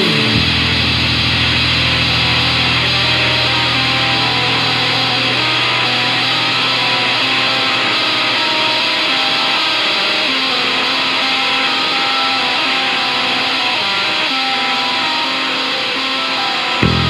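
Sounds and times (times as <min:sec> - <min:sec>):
experimental rock guitars: 0:00.0 - 0:17.0
low drone: 0:00.0 - 0:17.0.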